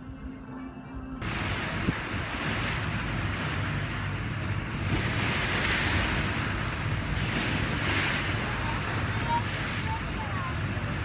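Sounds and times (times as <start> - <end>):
boat engine rumble: 0.0 - 11.0
water rushing: 1.2 - 11.0
wind buffeting microphone: 1.2 - 11.0.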